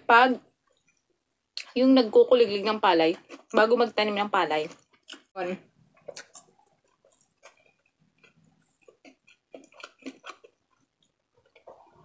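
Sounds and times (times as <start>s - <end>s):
chewing and wet mouth sounds: 0.6s - 1.8s, 3.0s - 12.0s.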